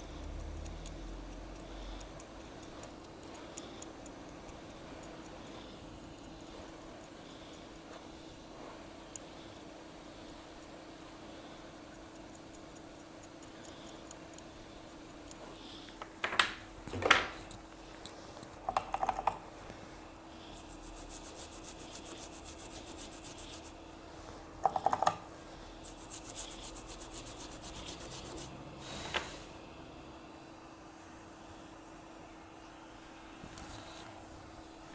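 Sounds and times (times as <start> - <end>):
steady hum: 0.0 - 34.9.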